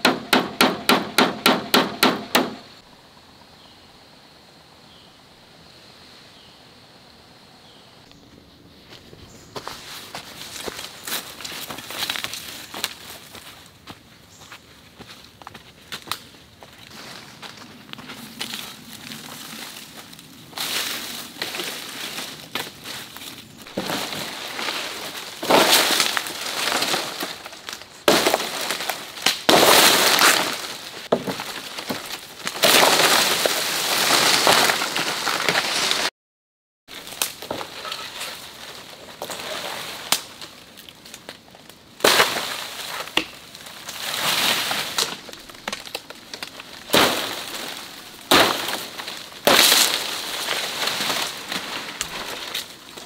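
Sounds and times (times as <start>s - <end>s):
dry leaves and twigs crunching: 8.1s - 36.1s, 36.9s - 53.0s.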